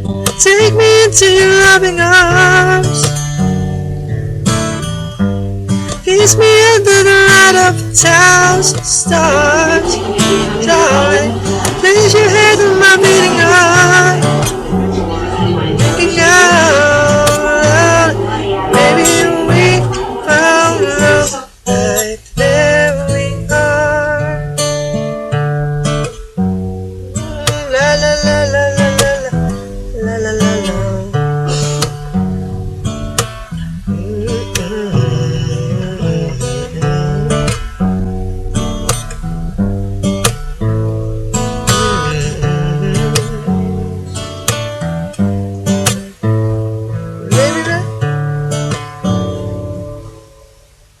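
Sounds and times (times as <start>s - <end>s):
bass: 0.0s - 51.0s
guitar playing ballad: 0.0s - 51.0s.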